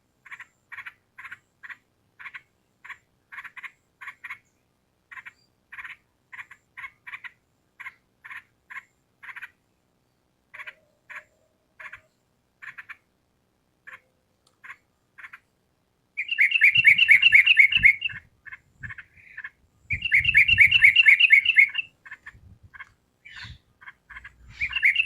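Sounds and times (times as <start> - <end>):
bird chattering calls: 0.2 - 4.5, 5.1 - 9.6, 10.5 - 13.1, 13.9 - 15.4, 16.2 - 25.0.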